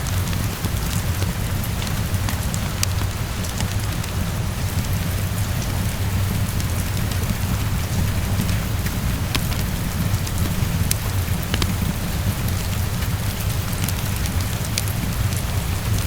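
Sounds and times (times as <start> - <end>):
heavy rain on a window: 0.0 - 16.0
low storm rumble: 0.0 - 16.0.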